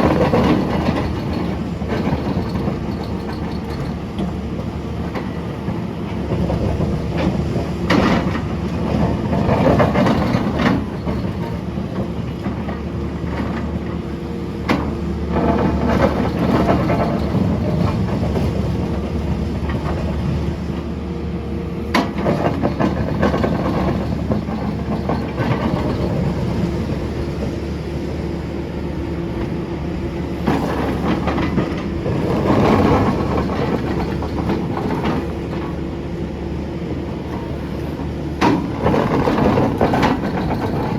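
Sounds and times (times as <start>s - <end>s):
excavator diesel engine under load: 0.0s - 40.9s.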